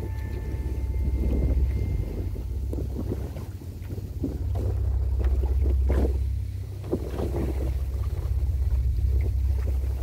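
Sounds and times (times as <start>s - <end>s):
boat motor droning: 0.0s - 10.0s
water splashing against hull: 0.0s - 10.0s.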